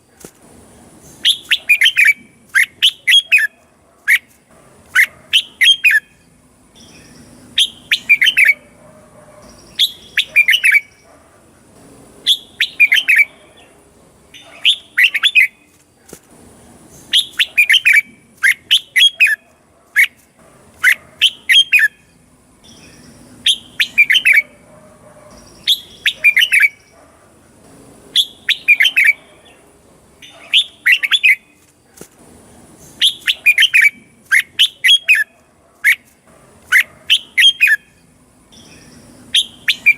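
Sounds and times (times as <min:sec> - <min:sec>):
bird singing chirping phrases: 0:00.9 - 0:04.3, 0:04.9 - 0:08.8, 0:09.4 - 0:15.8, 0:16.8 - 0:19.4, 0:20.8 - 0:24.6, 0:25.2 - 0:31.6, 0:32.6 - 0:39.9.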